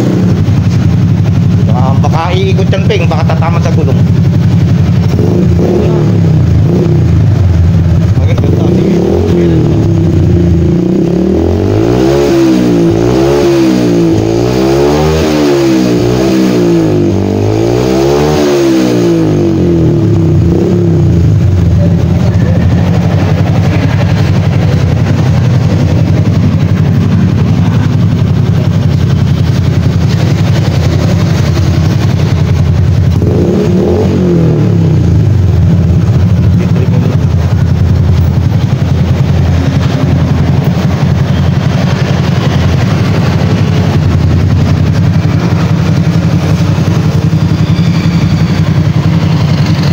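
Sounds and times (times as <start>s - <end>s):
motorcycle engine revving and idling: 0.0s - 49.9s.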